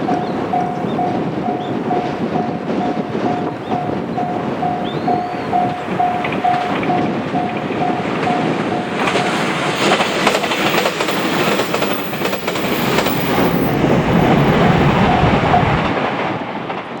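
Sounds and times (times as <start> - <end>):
train wheels clacking over rails: 0.0 - 17.0.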